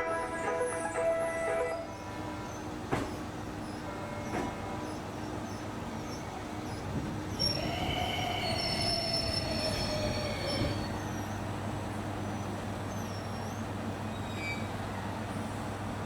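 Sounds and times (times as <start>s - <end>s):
train wheels squealing on rails: 0.0s - 15.9s
train rumble: 0.0s - 16.0s.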